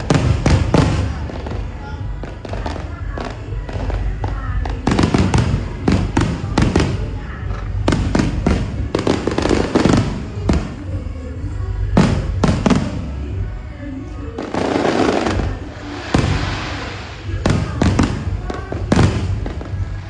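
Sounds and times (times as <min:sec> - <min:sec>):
fireworks bangs: 0:00.0 - 0:11.0, 0:11.9 - 0:13.3, 0:14.4 - 0:20.0
fireworks crackling: 0:00.0 - 0:11.1, 0:11.8 - 0:13.5, 0:14.2 - 0:20.0.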